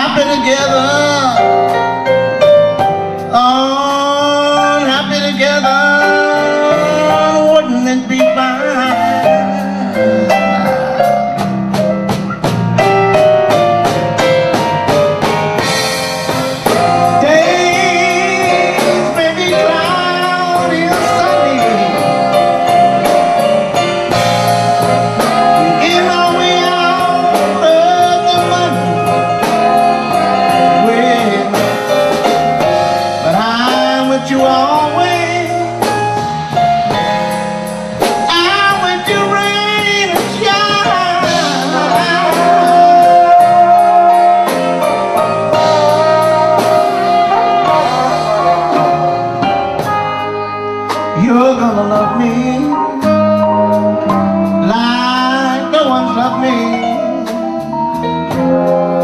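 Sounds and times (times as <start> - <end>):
man singing: 0.0 - 1.8, 3.2 - 11.4, 16.5 - 36.0, 38.1 - 49.6, 50.9 - 57.9
band with horns and drums: 0.0 - 59.0.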